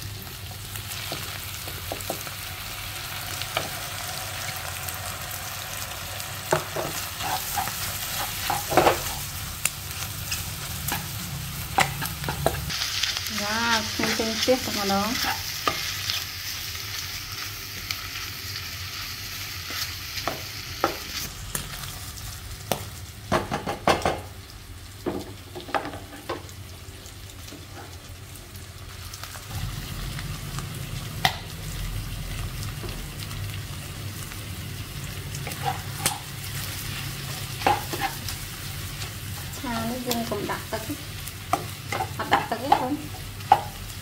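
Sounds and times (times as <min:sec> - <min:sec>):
squid sizzling in a pan: 0:00.0 - 0:44.0.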